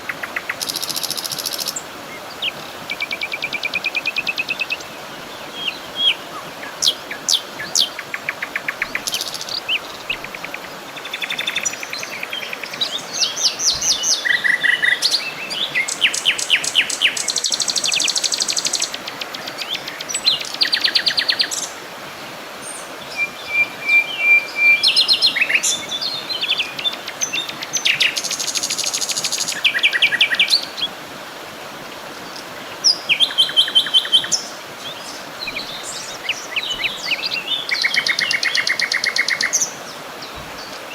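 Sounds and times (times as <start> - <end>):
songbirds singing and calling: 0.0 - 31.0, 31.7 - 40.9
steady background hiss: 0.0 - 40.9.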